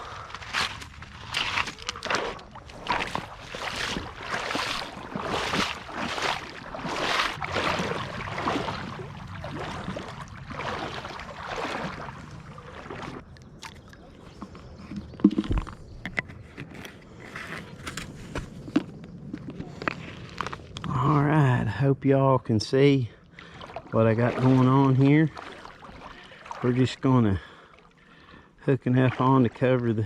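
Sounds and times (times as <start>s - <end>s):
footsteps in creek bed: 0.0s - 21.8s, 22.8s - 30.0s.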